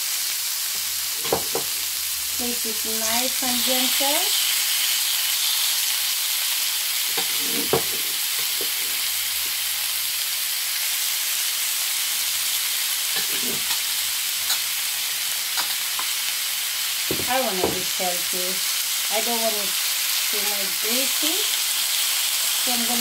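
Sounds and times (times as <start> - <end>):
chicken sizzling on grill pan: 0.0 - 23.0.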